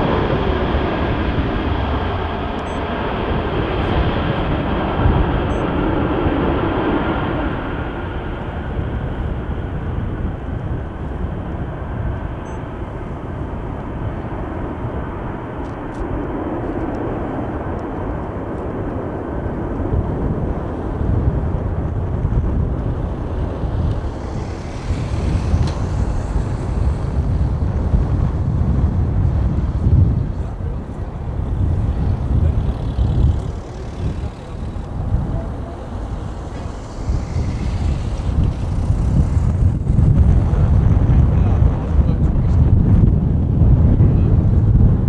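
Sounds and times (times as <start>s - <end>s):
jet engines rumbling: 0.0s - 45.0s.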